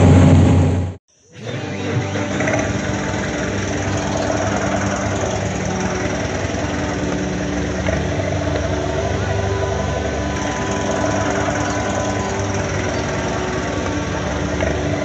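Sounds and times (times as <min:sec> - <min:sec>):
tractor diesel engine running: 0:01.8 - 0:15.0.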